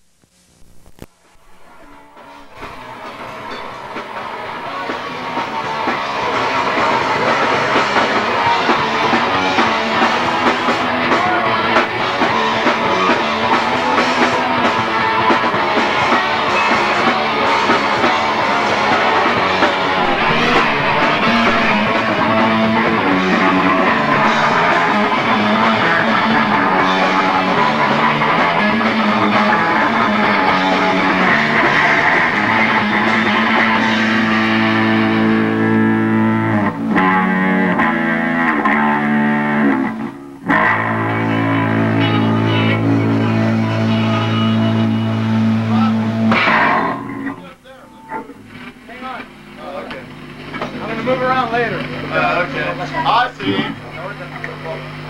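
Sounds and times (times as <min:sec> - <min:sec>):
rock music with guitar and drums: 0:01.4 - 0:52.8.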